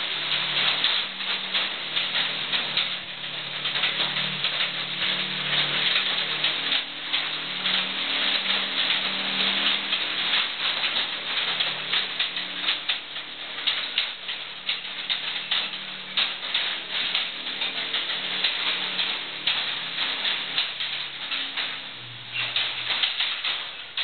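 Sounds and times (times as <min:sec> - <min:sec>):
tyres crackling over rough floor: 0:00.0 - 0:24.0.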